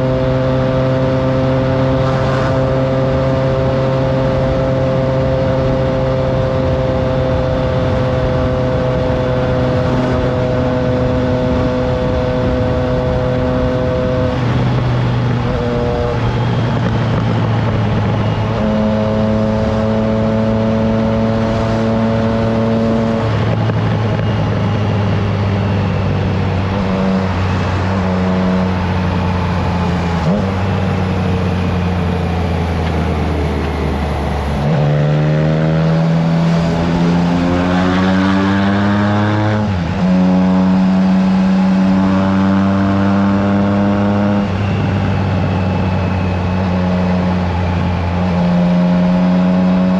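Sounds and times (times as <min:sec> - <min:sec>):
motorcycle engine: 0:00.0 - 0:49.9
wind noise on microphone: 0:00.0 - 0:49.9.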